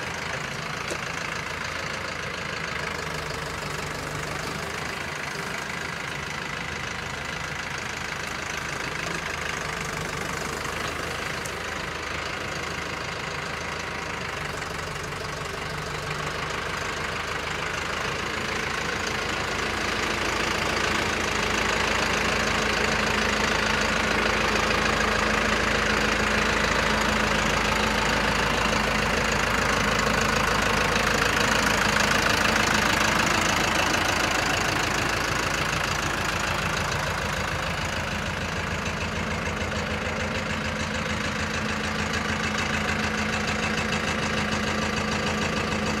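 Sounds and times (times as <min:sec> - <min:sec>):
tractor engine idling: 0:00.0 - 0:46.0.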